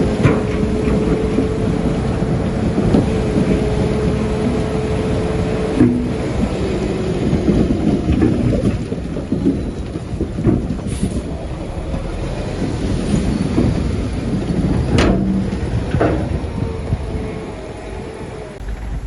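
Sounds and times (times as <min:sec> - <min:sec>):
bulldozer engine rumbling: 0:00.0 - 0:19.0
tracks and stone clanking: 0:00.0 - 0:19.0.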